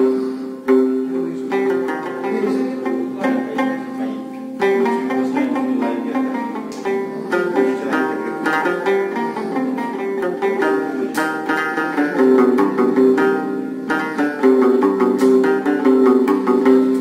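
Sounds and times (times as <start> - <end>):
rabab plucked melody: 0.0 - 17.0.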